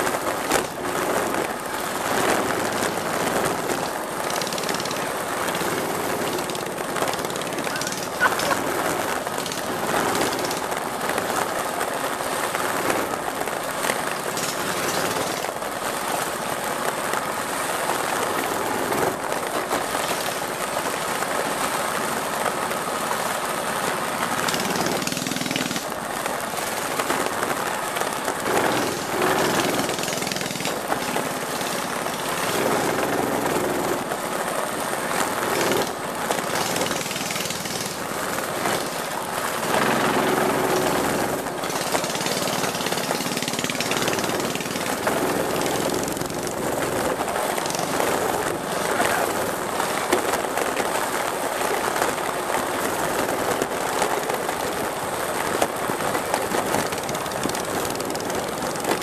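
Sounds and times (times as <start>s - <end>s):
minibike engines revving: 0.0s - 59.0s
steady rushing noise: 0.0s - 59.0s.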